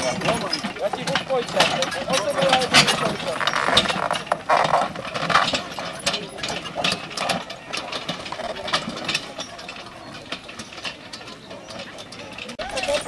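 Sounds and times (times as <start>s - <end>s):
harness knocking: 0.0s - 13.0s
horse-drawn wagon rattling: 0.0s - 13.0s.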